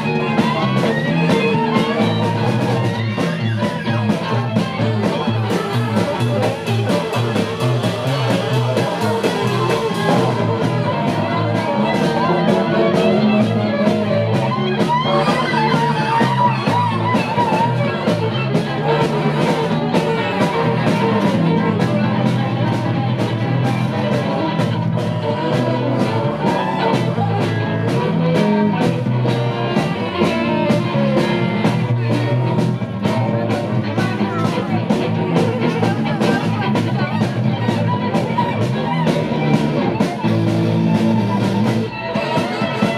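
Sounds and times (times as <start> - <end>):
baritone saxophone: 0.0 - 42.9
drum kit with cymbals: 0.0 - 42.9
fiddle: 0.0 - 42.9
rock band playing live: 0.0 - 42.9.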